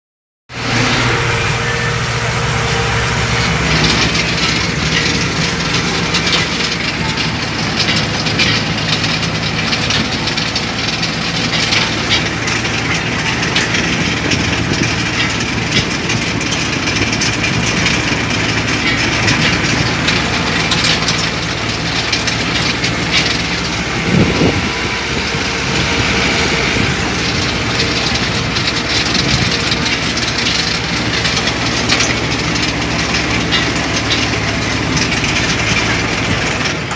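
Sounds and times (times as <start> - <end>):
heavy engine drone: 0.5 - 36.9
mechanical rattling and clatter: 3.0 - 36.9.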